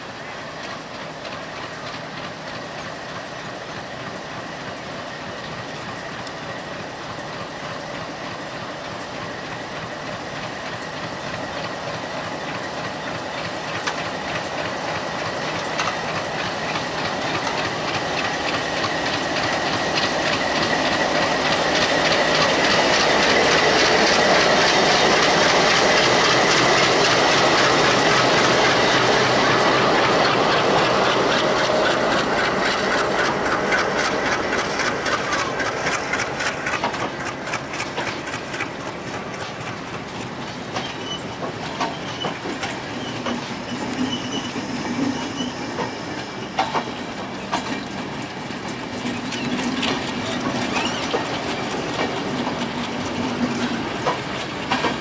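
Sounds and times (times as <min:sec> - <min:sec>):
diesel locomotive engine: 0:00.0 - 0:55.0
wheels clacking over rail joints: 0:00.2 - 0:55.0.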